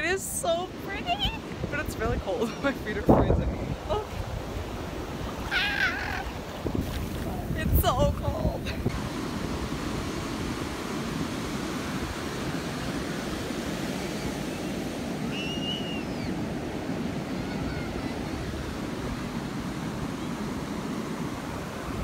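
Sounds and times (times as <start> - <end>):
ocean surf washing over sand: 0.0 - 22.0.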